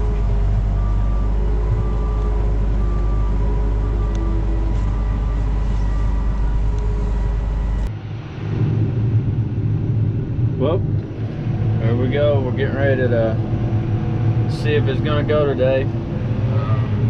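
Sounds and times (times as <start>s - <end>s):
diesel engine droning: 0.0s - 17.0s
rough engine sound: 0.0s - 17.0s.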